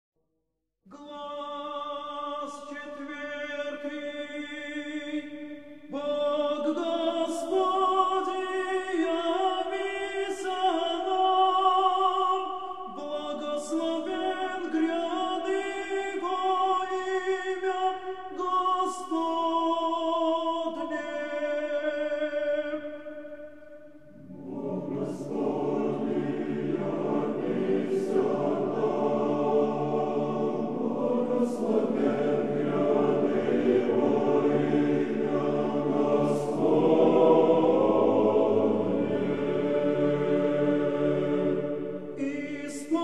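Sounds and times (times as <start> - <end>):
male choir chanting unaccompanied: 1.0 - 43.0.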